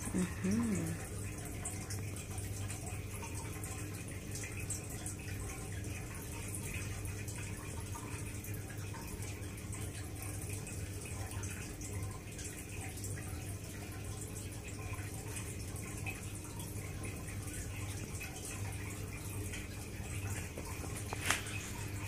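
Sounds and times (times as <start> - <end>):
aquarium filter water bubbling: 0.0 - 22.0
low steady hum: 0.0 - 22.0.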